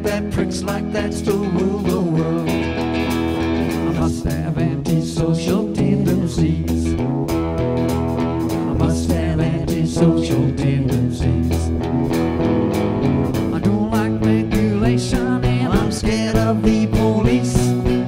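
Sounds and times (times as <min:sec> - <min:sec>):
bass guitar: 0:00.0 - 0:18.0
drums keeping a beat: 0:00.0 - 0:18.0
electric guitars: 0:00.0 - 0:18.0.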